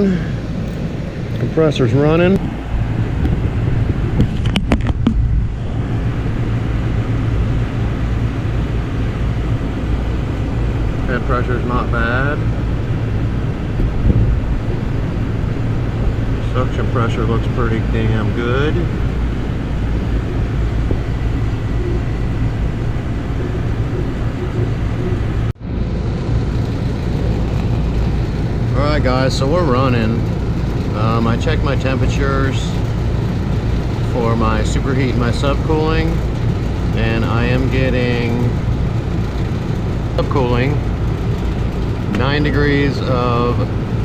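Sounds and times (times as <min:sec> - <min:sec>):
air conditioner compressor humming: 0:00.0 - 0:44.0.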